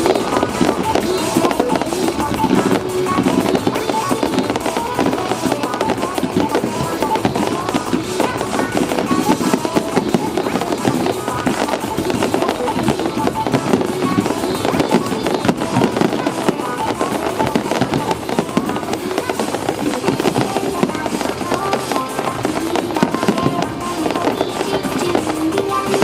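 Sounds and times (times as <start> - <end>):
fireworks bursting and crackling: 0.0 - 26.0
music: 0.0 - 26.0.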